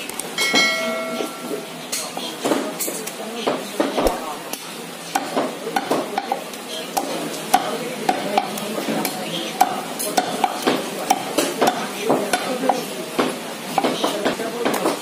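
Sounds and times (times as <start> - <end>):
steady background noise: 0.0 - 15.0
knife chopping meat and bone: 2.0 - 15.0.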